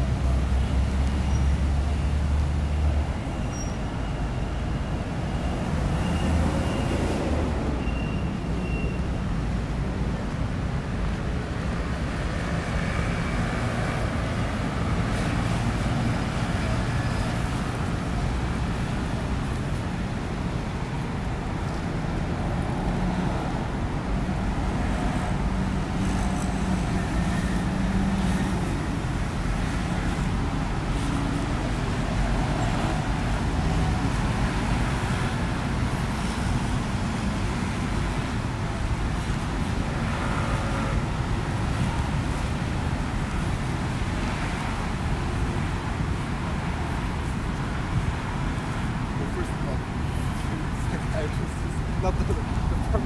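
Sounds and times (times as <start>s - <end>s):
road traffic rumble: 0.0s - 53.0s
cars passing: 4.3s - 9.8s, 10.4s - 53.0s.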